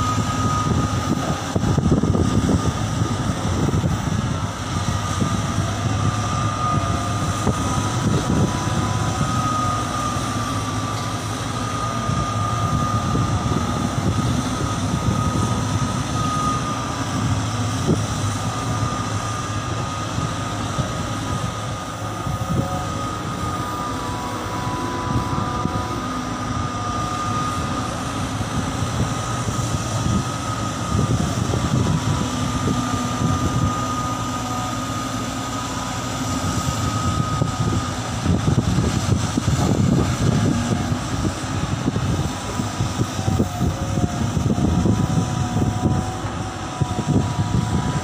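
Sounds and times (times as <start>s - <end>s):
excavator diesel engines rumbling: 0.0s - 48.0s.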